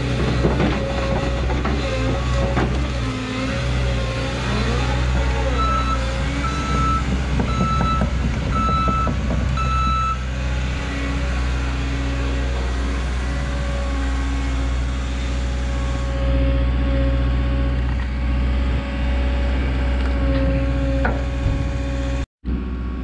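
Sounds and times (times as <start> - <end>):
excavator diesel engine drone: 0.0 - 23.0.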